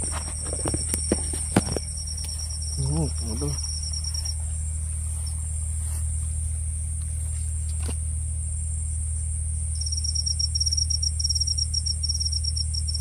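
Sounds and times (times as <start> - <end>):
high-pitched insect drone: 0.0 - 13.0
low hum: 0.0 - 13.0.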